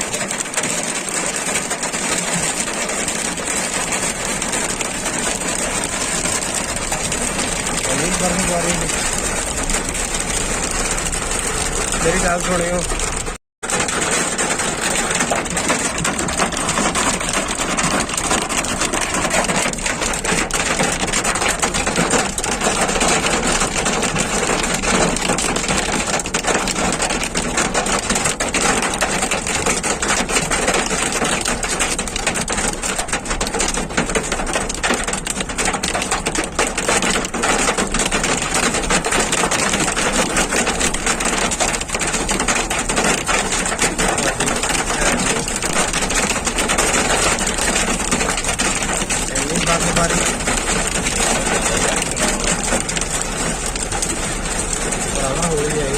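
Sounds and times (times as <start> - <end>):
hail and heavy rain pelting: 0.0 - 55.9.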